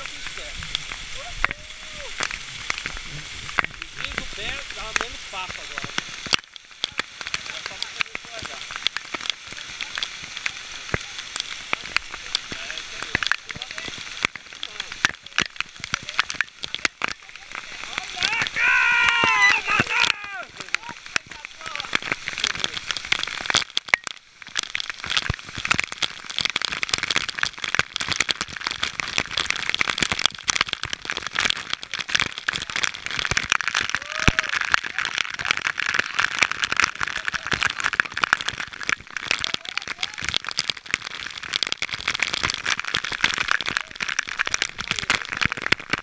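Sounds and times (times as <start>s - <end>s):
falling water rushing: 0.0s - 46.0s.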